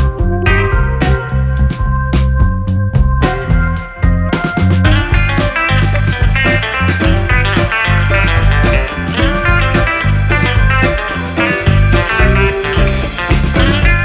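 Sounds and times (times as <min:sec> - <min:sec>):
guitar-led rock music: 0:00.0 - 0:14.0.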